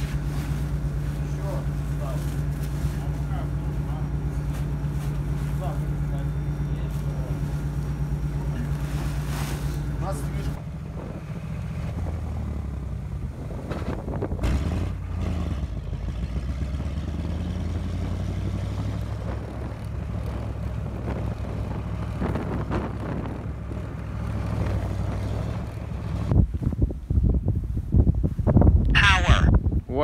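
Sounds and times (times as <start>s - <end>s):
engine droning: 0.0s - 26.8s.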